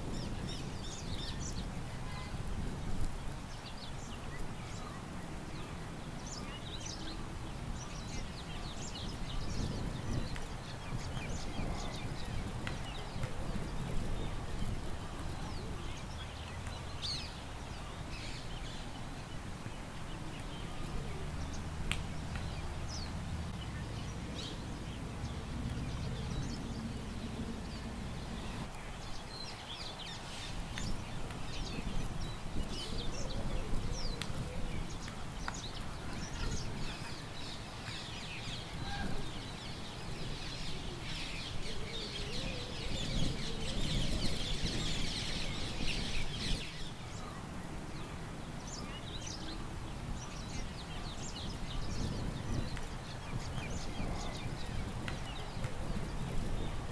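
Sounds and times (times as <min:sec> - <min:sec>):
low rumble of wind: 0:00.0 - 0:56.9
small birds chirping: 0:00.0 - 0:56.9.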